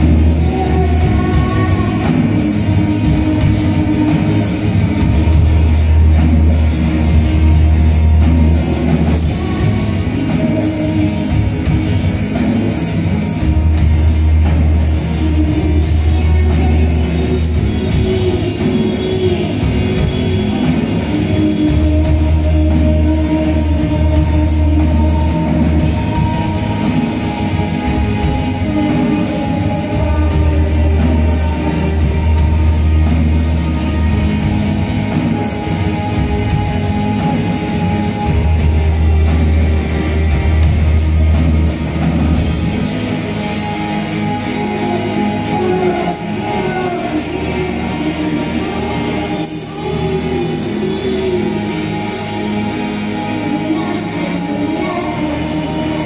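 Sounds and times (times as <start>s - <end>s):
deep bass line: 0.0s - 56.0s
live band playing: 0.0s - 56.0s
person singing: 0.0s - 56.0s.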